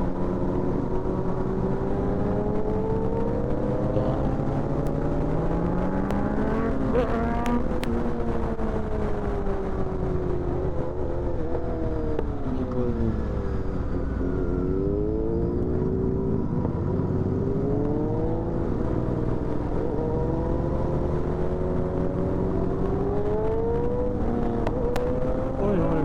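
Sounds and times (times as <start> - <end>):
motorcycle engine accelerating: 0.0 - 26.0
wind rumble on microphone: 0.0 - 26.0.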